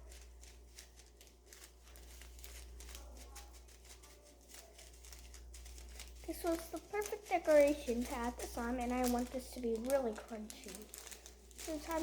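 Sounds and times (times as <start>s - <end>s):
crinkling and light clicking beads: 0.0s - 12.0s
low steady hum: 0.0s - 12.0s.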